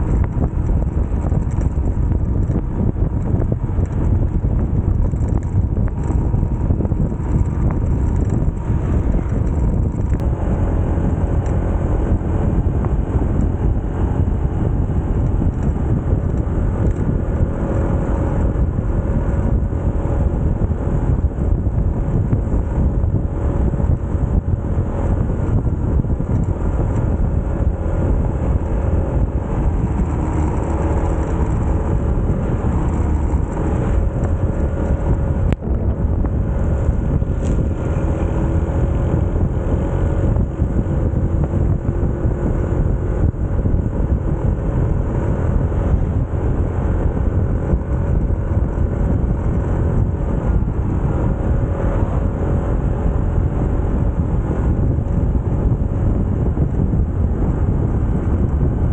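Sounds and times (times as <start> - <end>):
motorcycle engine running: 0.0 - 58.9
wind rumble on microphone: 0.0 - 58.9.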